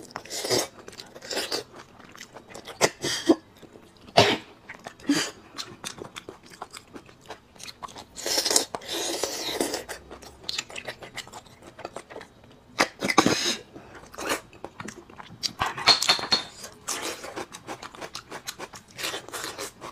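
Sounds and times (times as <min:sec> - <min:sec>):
wet chewing: 0:00.0 - 0:15.9, 0:16.6 - 0:19.9.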